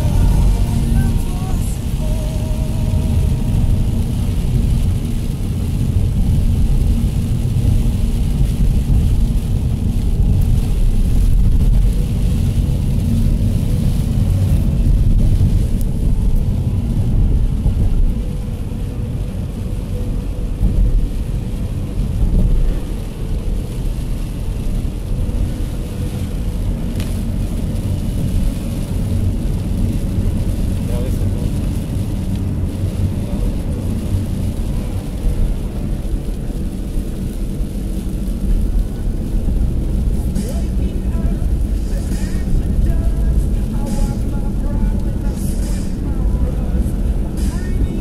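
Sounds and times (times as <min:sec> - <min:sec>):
tyres hissing through water spray: 0:00.0 - 0:17.5, 0:20.5 - 0:48.0
car driving on wet road: 0:00.0 - 0:48.0.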